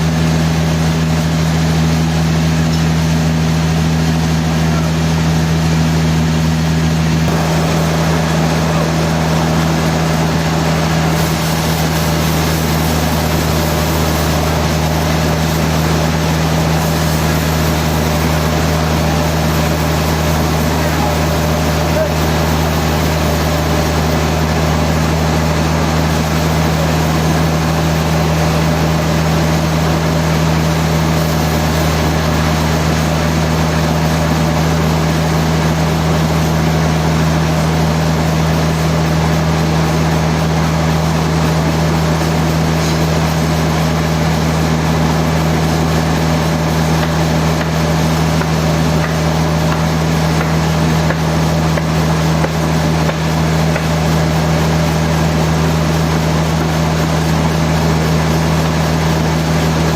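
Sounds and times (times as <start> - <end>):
machinery drone with hiss: 0.0 - 59.9.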